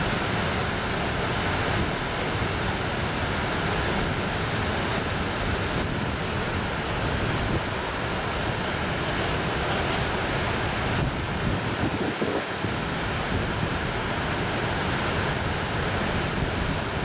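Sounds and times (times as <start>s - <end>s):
turbulent water roaring: 0.0s - 17.0s.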